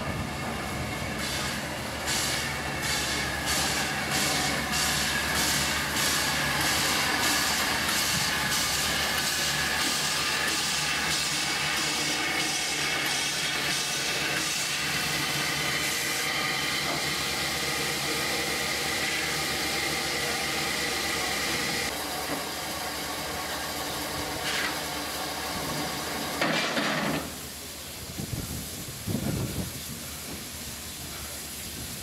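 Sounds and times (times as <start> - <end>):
burst of steam: 0.0 - 32.0
steam hissing: 0.0 - 32.0.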